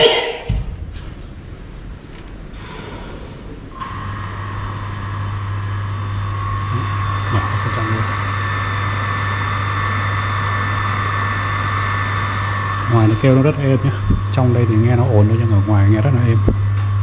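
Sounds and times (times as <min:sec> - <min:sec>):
electric water pump humming: 0:00.0 - 0:17.0.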